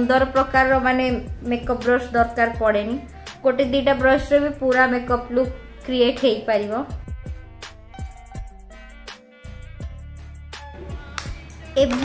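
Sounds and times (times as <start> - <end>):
background music drum beat: 0.0 - 6.3, 6.9 - 12.0.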